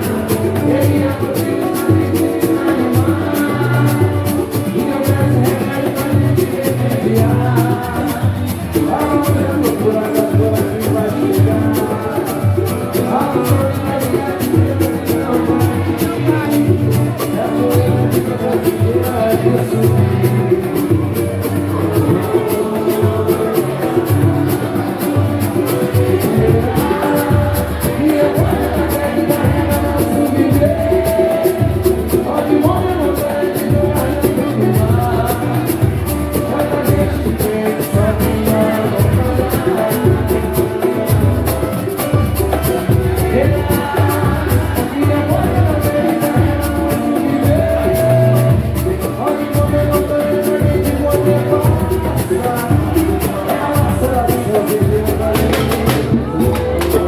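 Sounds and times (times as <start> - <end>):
band playing live: 0.0 - 57.0
low drum beat: 0.0 - 57.0
voices singing: 0.0 - 57.0.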